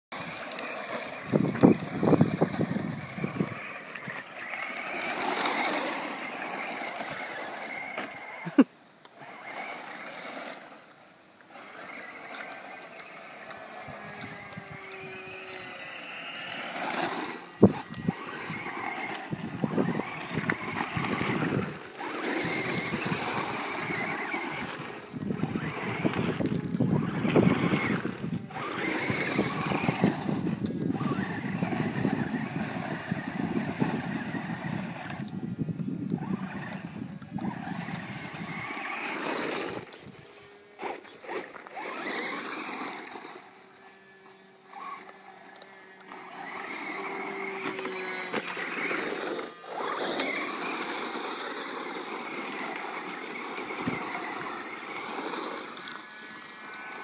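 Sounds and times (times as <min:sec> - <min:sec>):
tyres crunching gravel: 0:00.1 - 0:57.0
electric motor whining: 0:00.2 - 0:57.0.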